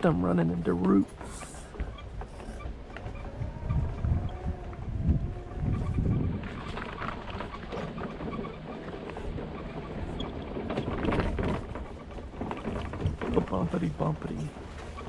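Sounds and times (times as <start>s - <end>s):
wheels rattling over rough trail: 0.0s - 15.0s.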